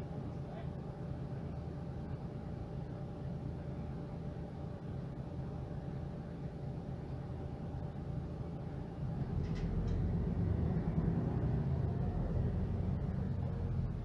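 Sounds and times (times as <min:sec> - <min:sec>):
bus diesel engine humming: 0:00.0 - 0:14.0.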